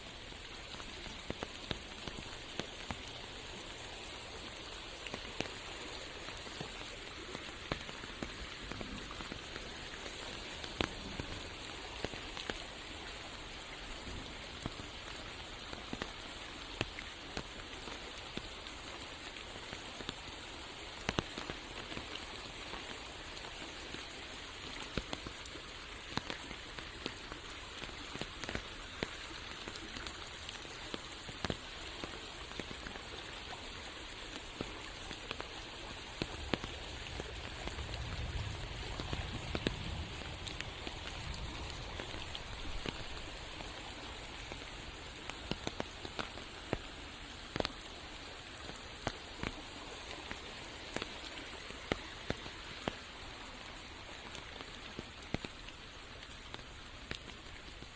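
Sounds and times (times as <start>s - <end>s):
rain on foliage: 0.0s - 57.9s.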